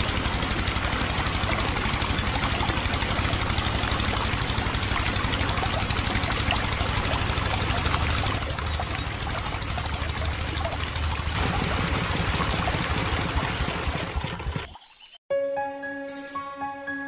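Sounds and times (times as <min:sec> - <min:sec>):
small water pump motor rattling: 0:00.0 - 0:14.9.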